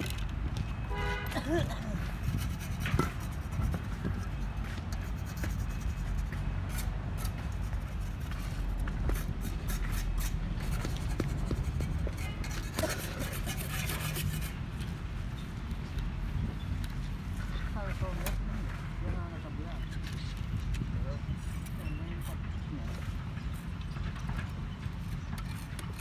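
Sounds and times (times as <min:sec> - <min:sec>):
city traffic rumble: 0:00.0 - 0:26.0
scraping and tapping on paving: 0:00.0 - 0:26.0.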